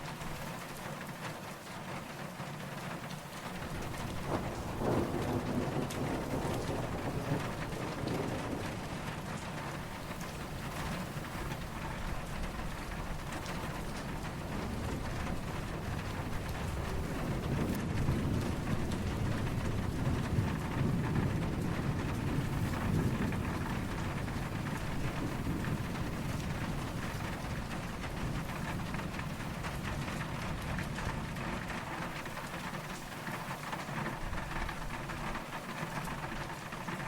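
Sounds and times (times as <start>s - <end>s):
steady rain falling: 0.0s - 37.0s
distant thunder rumbling: 3.4s - 37.0s.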